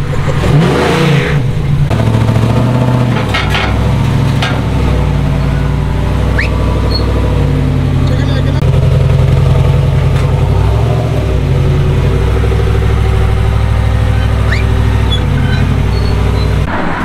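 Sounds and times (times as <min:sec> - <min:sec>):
pickup engine revving and idling: 0:00.0 - 0:16.8.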